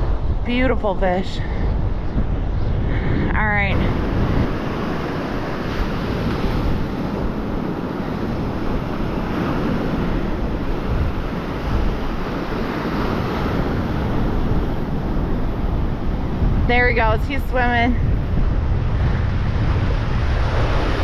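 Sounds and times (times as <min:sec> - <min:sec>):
wind rumbling on microphone: 0:00.0 - 0:21.0
surf breaking on beach: 0:02.9 - 0:21.0.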